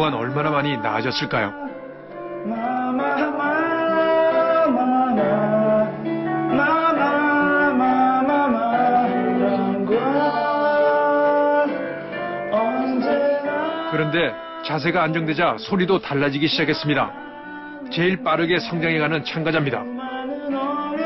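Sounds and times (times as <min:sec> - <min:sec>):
guitar-backed music: 0:00.0 - 0:21.0.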